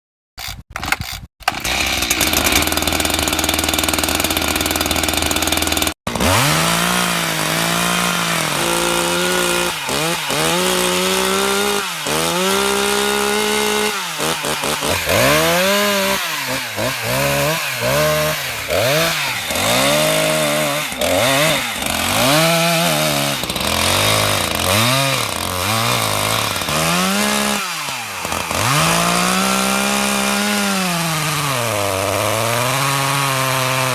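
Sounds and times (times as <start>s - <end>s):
chainsaw engine revving: 0.4s - 33.9s.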